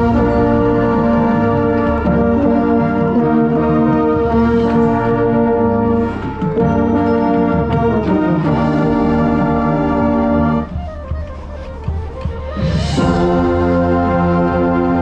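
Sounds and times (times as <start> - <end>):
marching band brass chords: 0.0 - 15.0.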